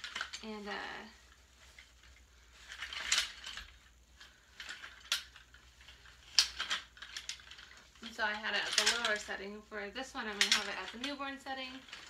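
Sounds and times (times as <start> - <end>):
rustling of frame and fabric: 0.0 - 12.0.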